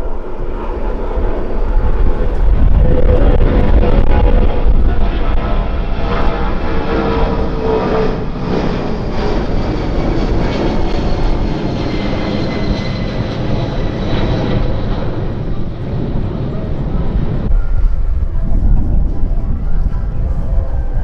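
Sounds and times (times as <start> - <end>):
airliner engines roaring: 0.0 - 21.0.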